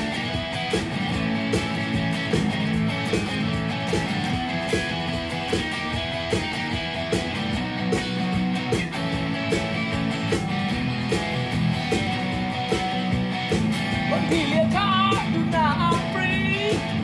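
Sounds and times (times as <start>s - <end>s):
punk blues guitar music: 0.0s - 17.0s
sliding guitar notes: 0.0s - 17.0s.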